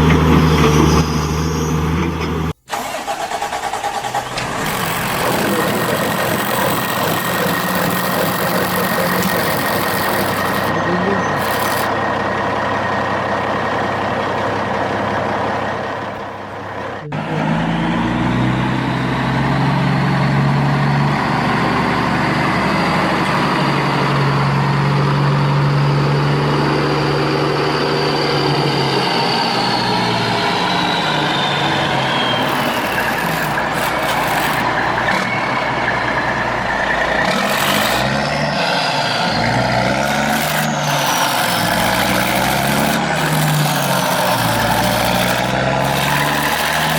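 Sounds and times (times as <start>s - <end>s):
truck engine running: 0.0s - 46.9s
high whine: 4.0s - 46.9s.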